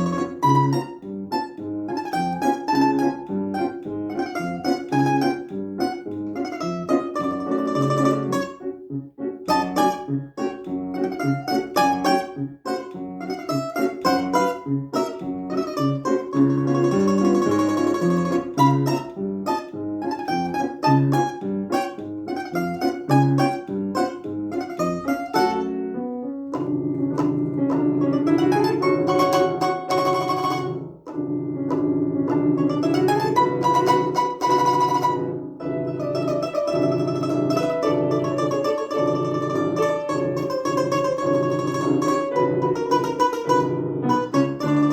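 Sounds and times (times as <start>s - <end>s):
low bass notes: 0.0s - 44.9s
plucked string instrument solo: 0.0s - 44.9s.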